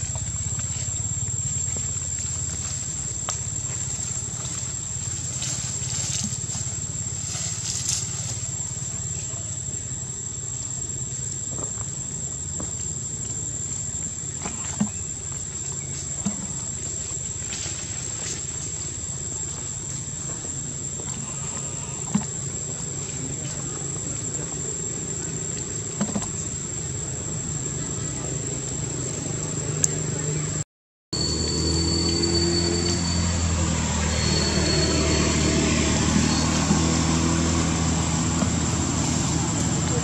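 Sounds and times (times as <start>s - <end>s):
high-pitched insect drone: 0.0s - 30.6s, 31.2s - 40.0s.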